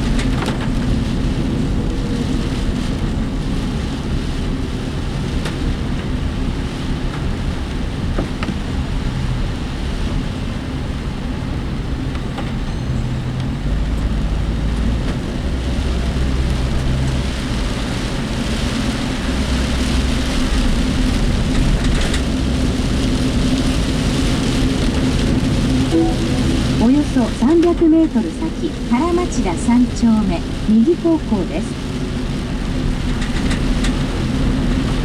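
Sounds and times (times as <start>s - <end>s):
engine and road rumble: 0.0s - 35.0s
rain hissing on vehicle body: 0.0s - 35.0s.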